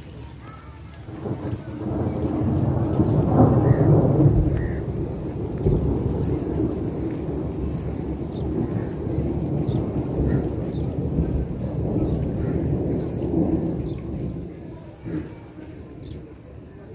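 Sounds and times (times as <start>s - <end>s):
rain falling: 0.0s - 16.9s
rolling thunder: 1.0s - 16.6s.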